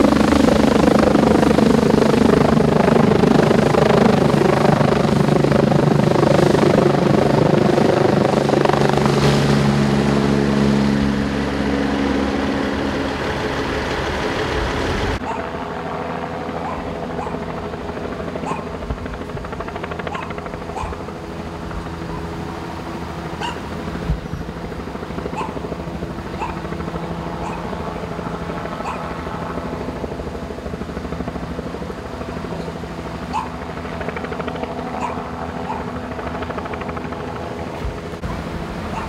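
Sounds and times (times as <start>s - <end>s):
steady engine hum: 0.0s - 39.0s.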